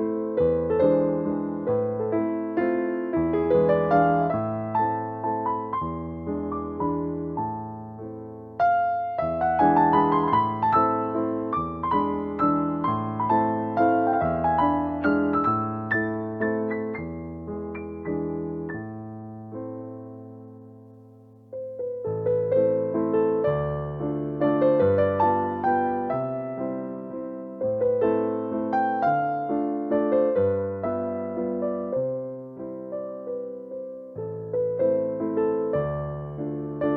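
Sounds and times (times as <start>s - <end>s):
solo piano music: 0.0s - 36.9s.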